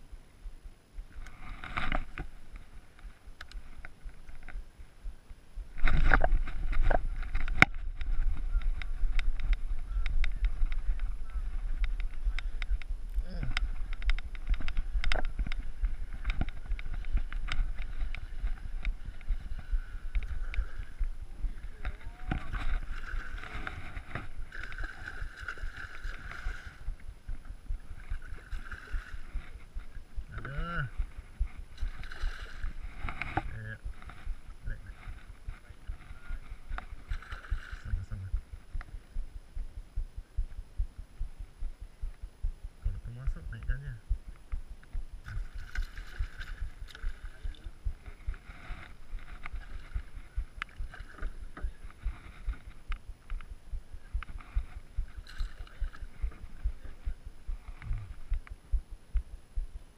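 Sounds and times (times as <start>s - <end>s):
wind rumble on microphone: 0.0s - 59.9s
water lapping at a boat: 0.1s - 42.4s, 44.2s - 58.8s.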